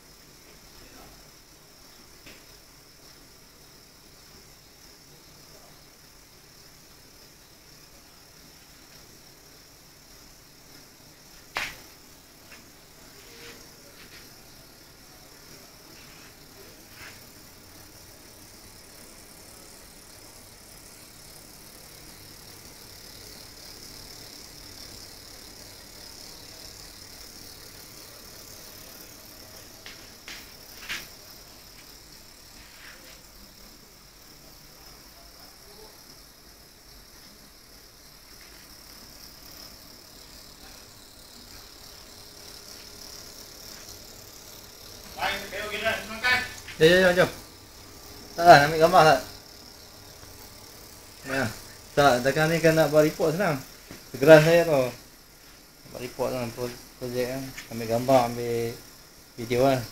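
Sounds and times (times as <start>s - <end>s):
electric bicycle motor whirring: 0.0s - 59.9s.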